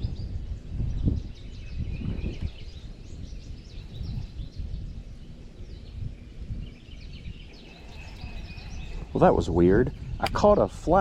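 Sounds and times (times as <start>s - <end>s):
birds chirping and singing: 0.0s - 11.0s
wind rumbling on microphone: 0.0s - 11.0s.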